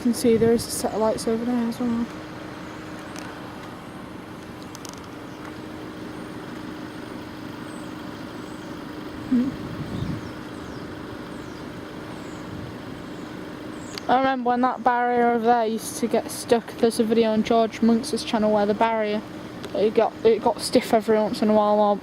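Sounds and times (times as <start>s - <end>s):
traffic hum of engines and tyres: 0.0s - 22.0s.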